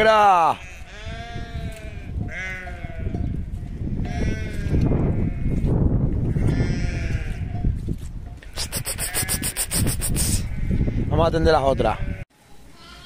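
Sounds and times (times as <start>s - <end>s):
sheep bleating: 0.0s - 3.3s, 4.0s - 5.7s, 6.3s - 7.6s, 8.4s - 13.0s.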